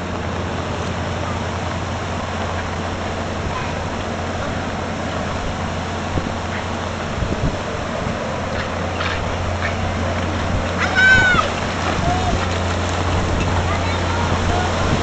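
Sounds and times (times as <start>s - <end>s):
creek water rushing: 0.0s - 15.0s
water cascading over ledge: 0.0s - 15.0s.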